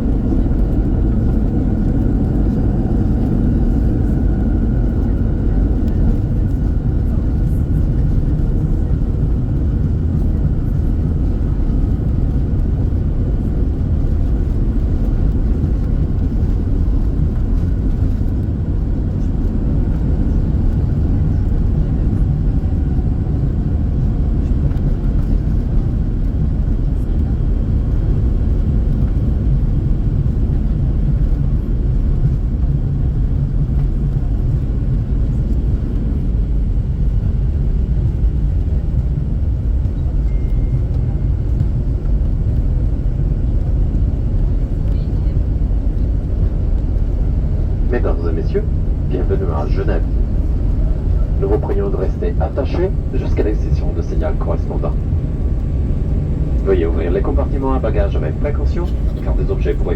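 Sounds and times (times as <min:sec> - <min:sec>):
aircraft cabin rumble: 0:00.0 - 0:59.9
faint steady engine whine: 0:00.0 - 0:59.9.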